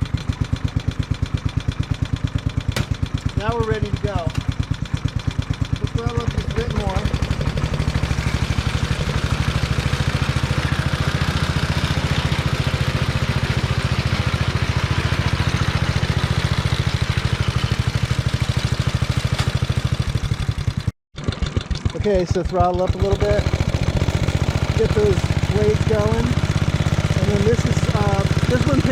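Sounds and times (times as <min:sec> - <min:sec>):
mower engine running steadily: 0:00.0 - 0:28.9.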